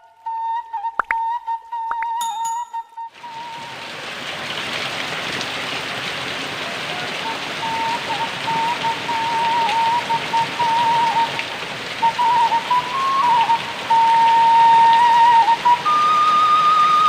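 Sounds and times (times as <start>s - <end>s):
wavering flute melody: 0.0s - 4.0s, 6.6s - 17.0s
heavy rain falling: 3.2s - 17.0s.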